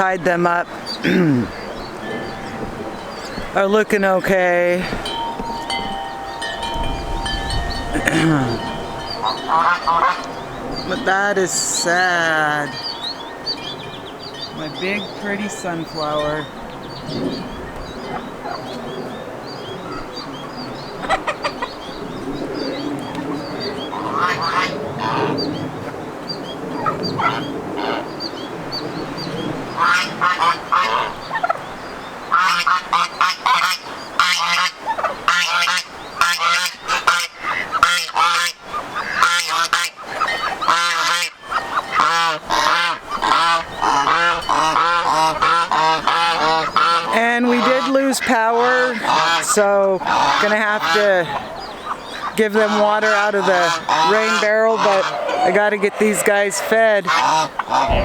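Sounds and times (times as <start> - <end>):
geese honking: 0.0 - 26.0, 29.7 - 58.0.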